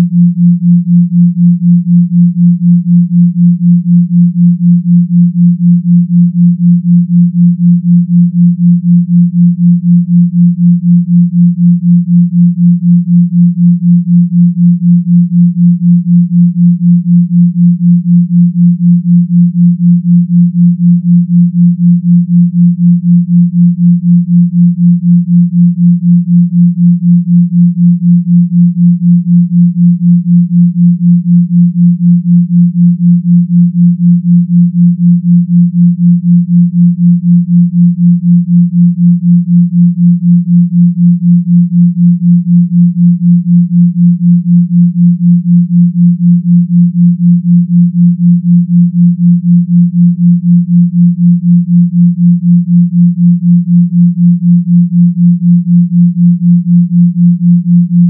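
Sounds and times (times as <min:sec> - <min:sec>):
pulsing low sine tone: 0:00.0 - 0:58.0.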